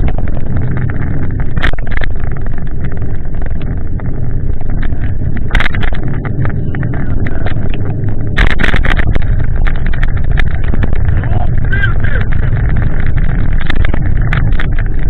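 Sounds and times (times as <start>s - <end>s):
loud clattering: 0.0s - 15.0s
wind buffeting microphone: 0.0s - 15.0s.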